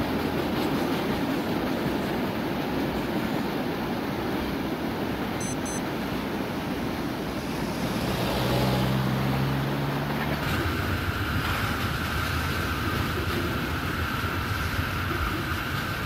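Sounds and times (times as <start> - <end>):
distant freight train rumbling: 0.0 - 16.0.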